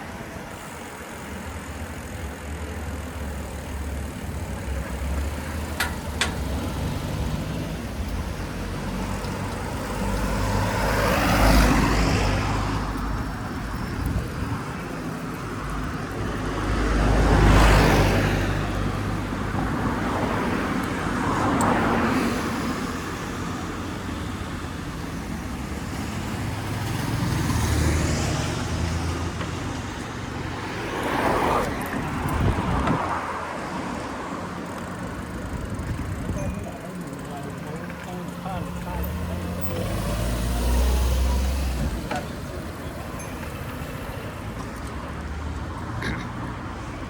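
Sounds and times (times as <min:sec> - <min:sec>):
cars passing: 0:00.0 - 0:47.0
low traffic rumble: 0:00.0 - 0:47.0.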